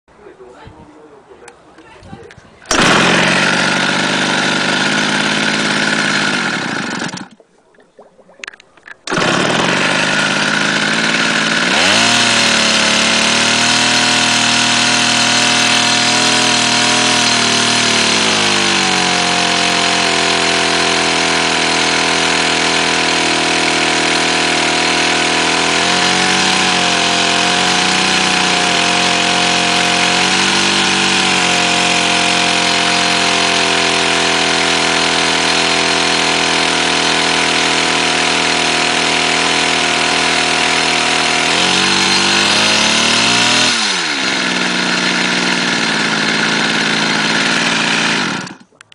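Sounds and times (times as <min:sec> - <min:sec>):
engine running and revving: 0:02.7 - 0:07.3, 0:09.1 - 0:48.6.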